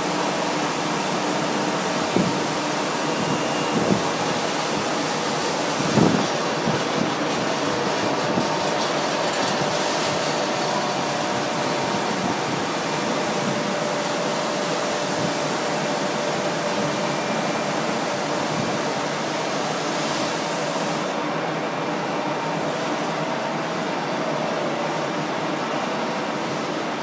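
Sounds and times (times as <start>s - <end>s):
drilling machine whirring hiss: 0.0s - 27.0s.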